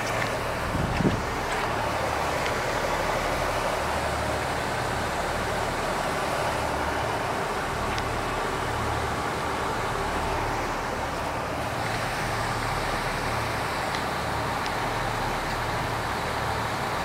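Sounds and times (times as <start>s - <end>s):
constant rushing noise: 0.0s - 17.0s
diesel train engine idling: 0.0s - 17.0s.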